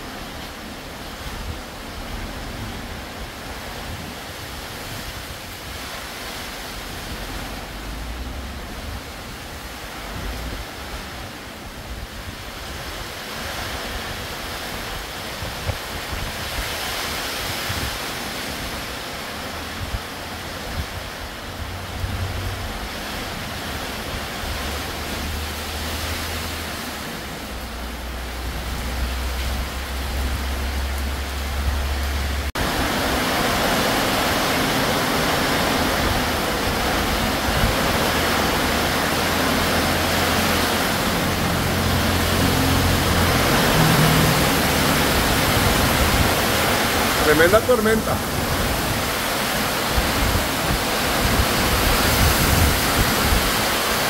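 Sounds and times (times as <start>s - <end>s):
gusting wind: 0.0s - 54.0s
heavy rain: 0.0s - 54.0s.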